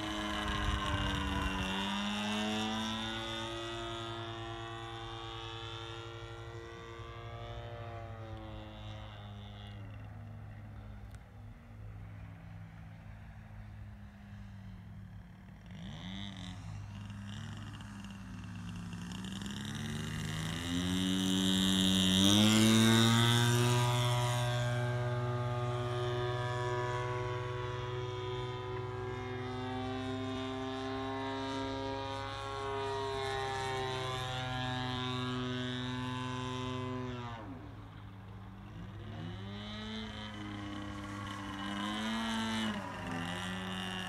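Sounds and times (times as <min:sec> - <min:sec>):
model airplane engine in flight: 0:00.0 - 0:44.0.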